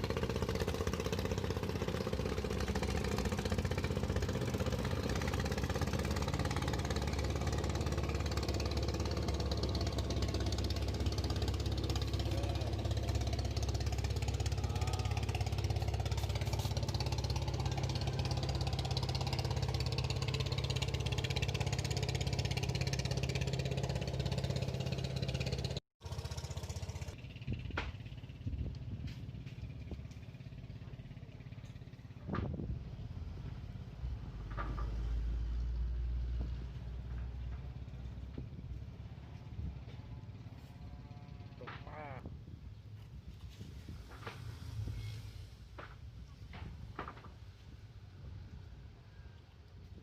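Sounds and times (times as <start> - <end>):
small engine running: 0.0 - 42.2.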